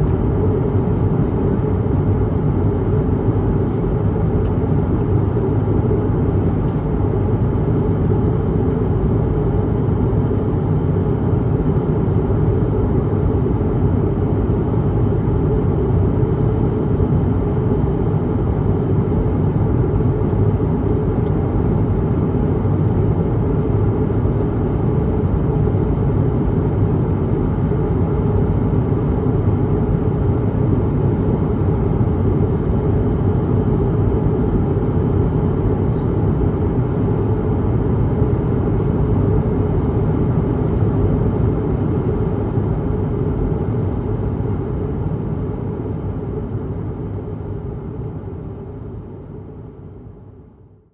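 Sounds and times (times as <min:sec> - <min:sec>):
jet engines rumbling in cabin: 0:00.0 - 0:50.6.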